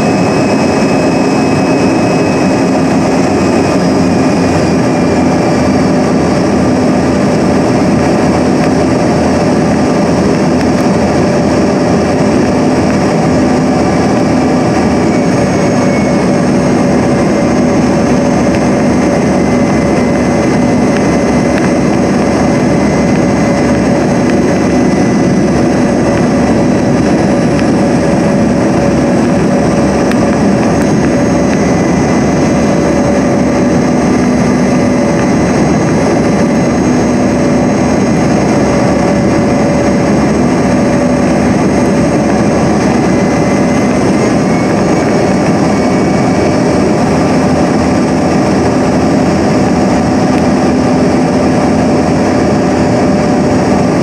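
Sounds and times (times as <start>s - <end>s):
cabin airflow rush: 0.0s - 54.0s
jet engine hum: 0.0s - 54.0s.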